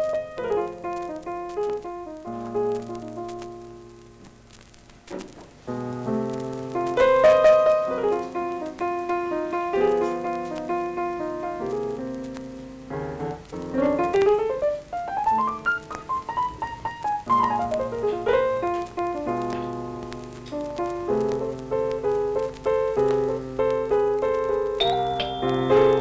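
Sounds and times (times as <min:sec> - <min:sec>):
piano music: 0:00.0 - 0:04.6, 0:05.6 - 0:26.0.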